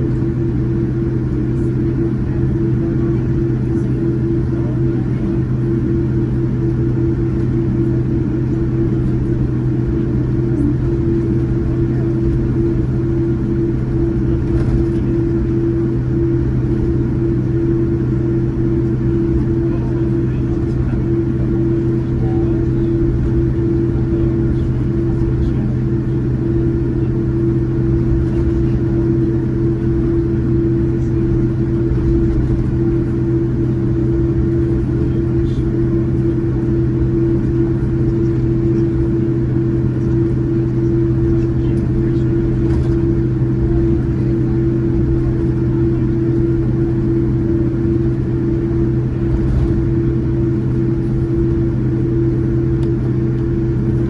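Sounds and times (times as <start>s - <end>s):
airliner cabin rumble: 0.0s - 54.0s
steady hum: 0.0s - 54.0s.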